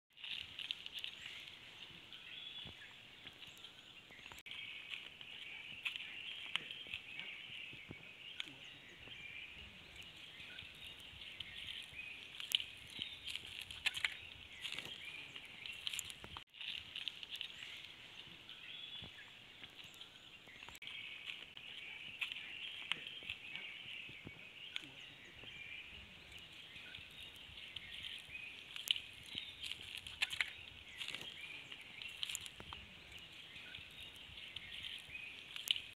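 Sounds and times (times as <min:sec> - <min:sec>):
chorus of high chirping: 0:00.2 - 0:36.0.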